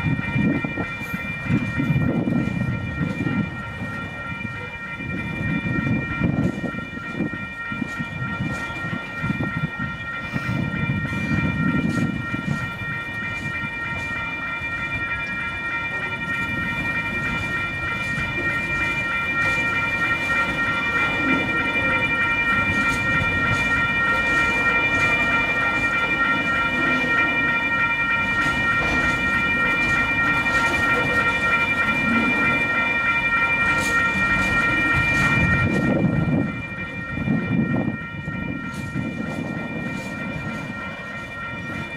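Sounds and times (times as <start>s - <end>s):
freight train wheels rumbling: 0.0s - 41.9s
level crossing warning bell: 0.0s - 41.9s.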